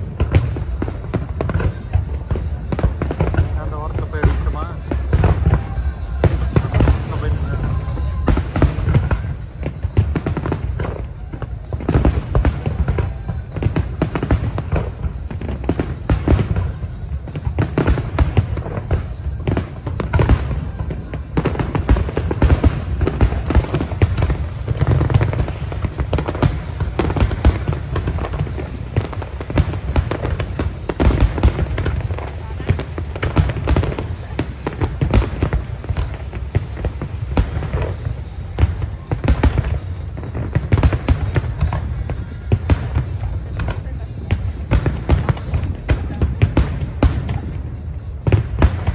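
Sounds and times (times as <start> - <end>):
fireworks bursts and booms: 0.0 - 48.9.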